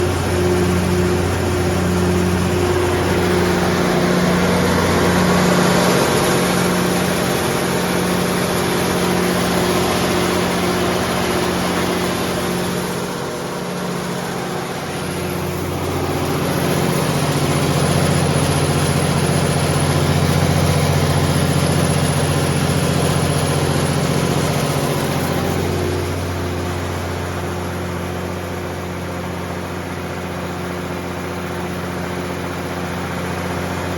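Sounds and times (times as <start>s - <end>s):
diesel generator engine drone: 0.0s - 33.9s.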